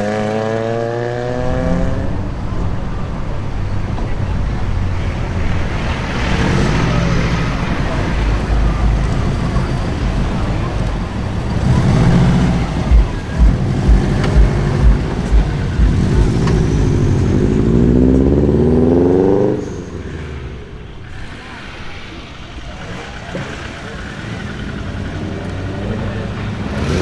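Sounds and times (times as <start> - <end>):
car accelerating: 0.0 - 27.0
car engine throttle blips: 0.0 - 27.0.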